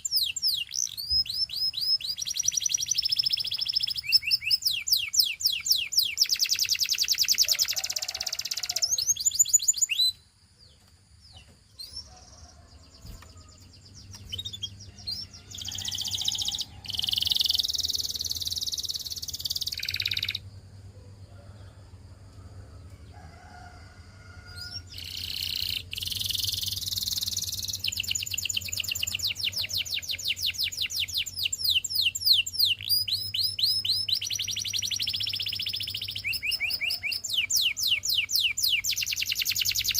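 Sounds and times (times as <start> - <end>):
canary singing trills: 0.0 - 20.5, 24.5 - 39.9.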